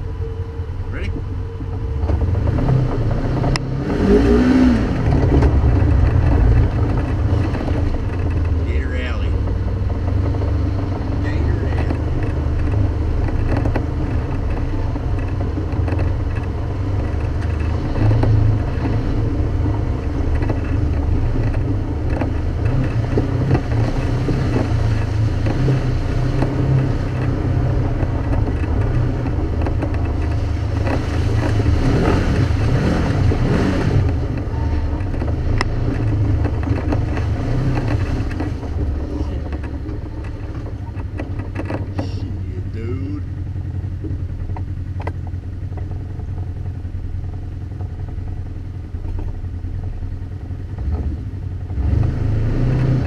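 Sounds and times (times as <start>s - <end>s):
off-road engine revving: 0.0s - 53.0s.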